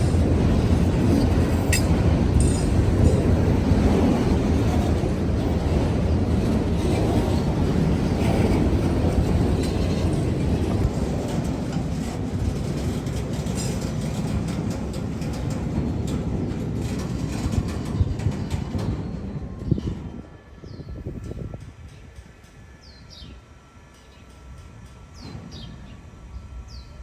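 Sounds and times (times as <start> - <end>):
freight train rolling past: 0.0 - 27.0.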